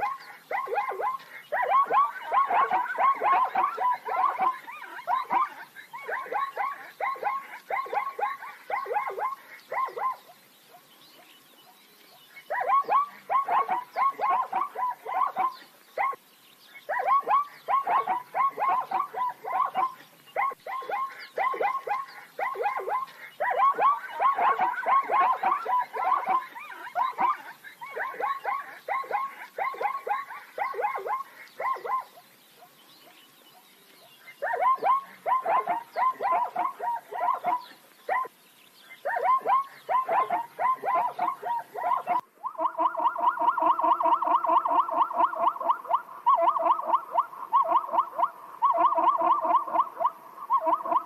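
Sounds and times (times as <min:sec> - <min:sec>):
zebras barking calls: 0:00.0 - 0:51.0.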